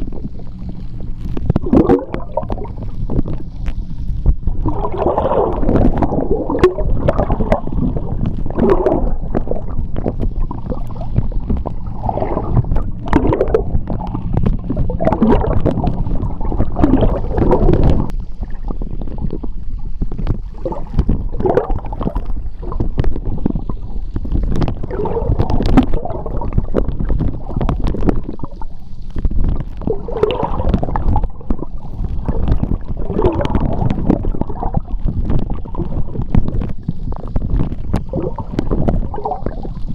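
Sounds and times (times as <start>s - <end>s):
bubbling and gurgling: 0.0s - 39.9s
underwater churning water: 0.0s - 39.9s.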